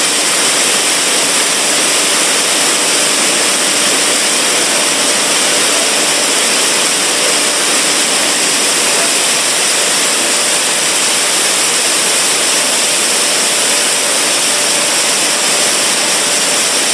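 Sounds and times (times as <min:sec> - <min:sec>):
milling machinery rushing noise: 0:00.0 - 0:16.9.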